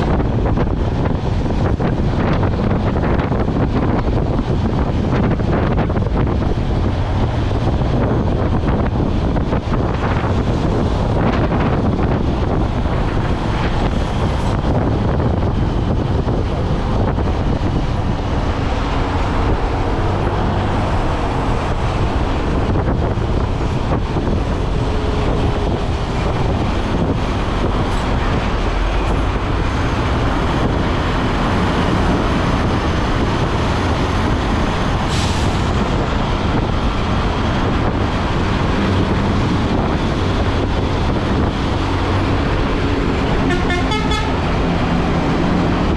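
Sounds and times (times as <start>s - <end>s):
vehicle engine and road noise: 0.0s - 45.9s.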